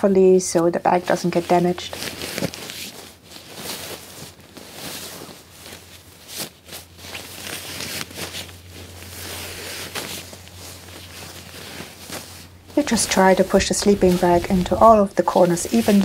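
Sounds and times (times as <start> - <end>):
low steady hum: 0.0 - 16.0
sleeping bag rustling: 0.6 - 16.0.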